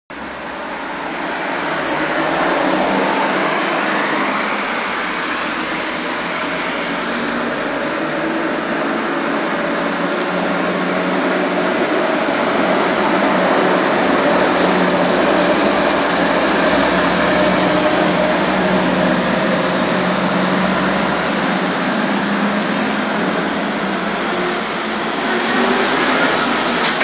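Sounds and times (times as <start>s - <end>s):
heavy truck approaching: 0.1s - 27.0s
road traffic noise: 0.1s - 27.0s.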